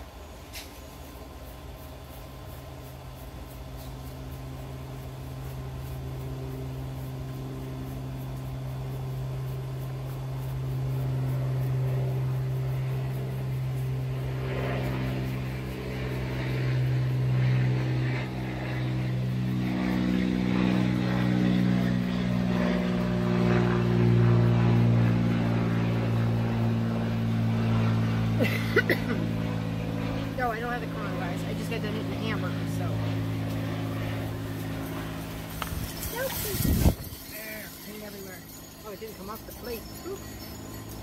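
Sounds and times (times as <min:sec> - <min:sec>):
motor droning: 0:00.0 - 0:41.0.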